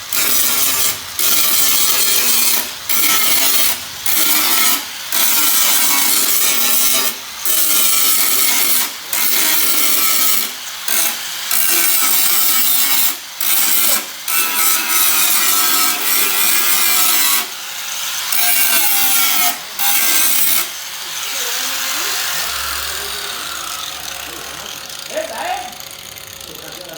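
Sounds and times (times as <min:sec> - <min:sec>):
harsh rasping on rusted metal: 0:00.1 - 0:26.9.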